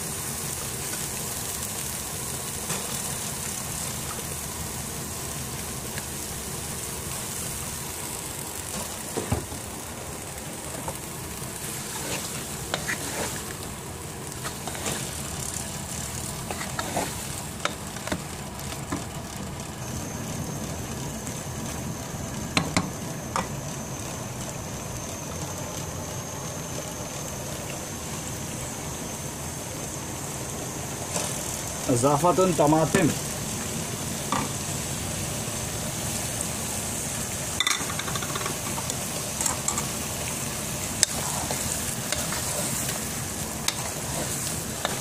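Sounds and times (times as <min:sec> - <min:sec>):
gourd sizzling in a pot: 0:00.0 - 0:45.0.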